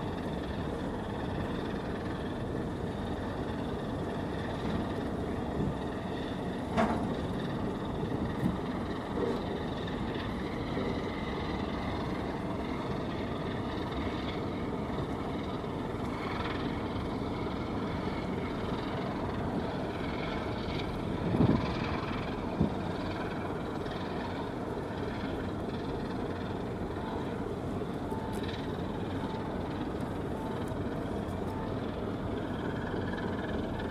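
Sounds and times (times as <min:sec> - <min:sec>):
distant ship engines rumbling: 0:00.0 - 0:33.9.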